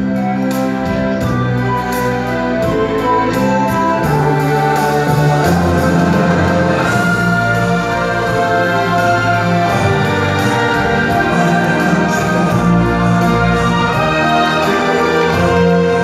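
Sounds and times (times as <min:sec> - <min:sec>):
orchestral music over loudspeakers: 0:00.0 - 0:16.0.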